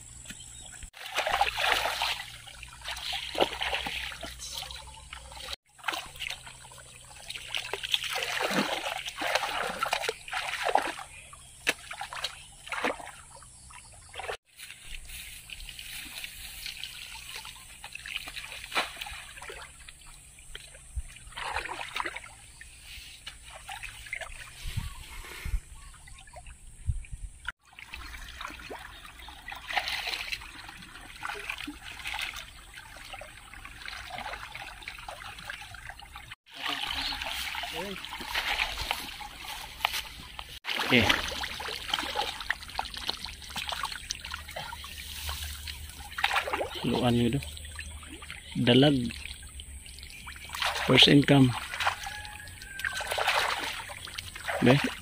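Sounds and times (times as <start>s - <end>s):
muddy water splashing: 0.2s - 55.0s.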